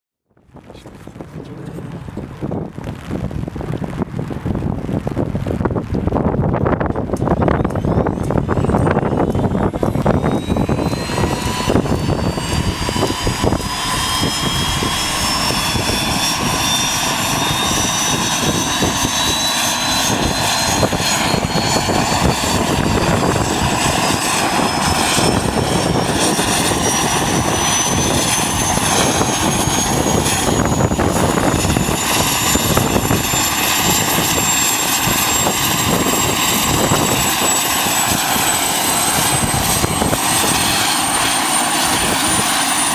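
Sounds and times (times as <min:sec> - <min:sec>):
helicopter rotor rumble: 0:00.3 - 0:42.9
turbine whine rising: 0:00.4 - 0:42.9.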